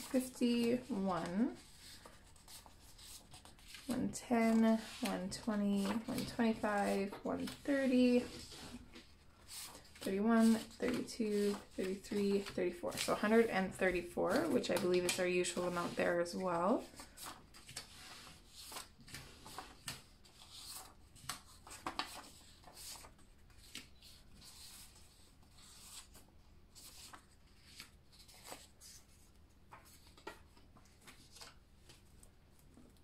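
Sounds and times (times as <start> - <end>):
paper bills rustling and flicking: 0.0 - 29.1.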